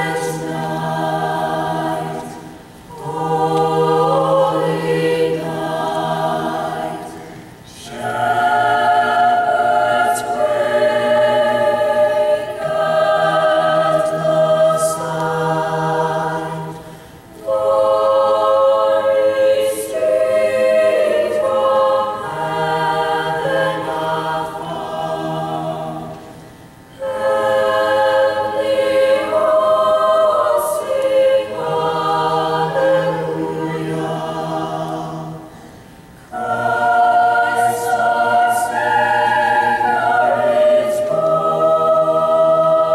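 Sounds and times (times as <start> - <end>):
youth choir singing a cappella: 0.0 - 42.9.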